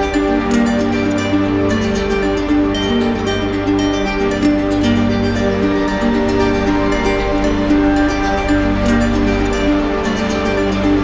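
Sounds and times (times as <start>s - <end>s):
gentle plucked string music: 0.0s - 11.0s.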